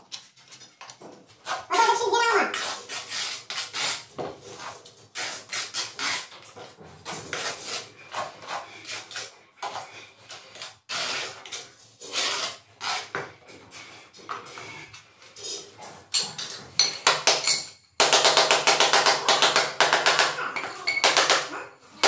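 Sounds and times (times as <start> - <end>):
trowel scraping tile adhesive: 1.4 - 22.0.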